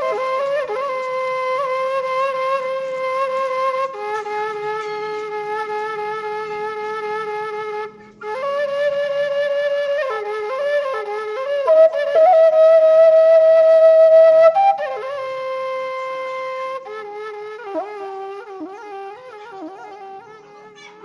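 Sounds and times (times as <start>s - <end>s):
flute playing slow melody: 0.0s - 21.0s.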